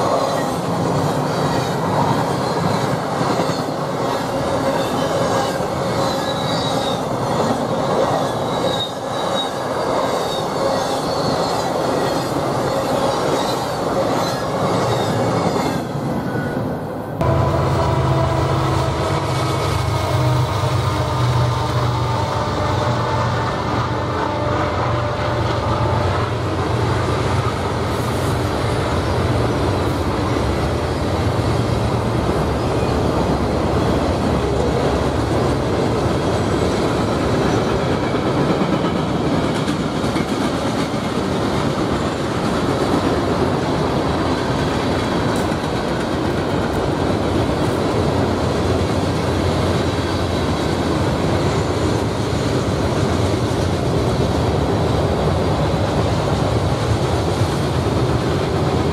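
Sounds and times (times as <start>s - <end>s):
freight train rumbling past: 0.0s - 58.9s.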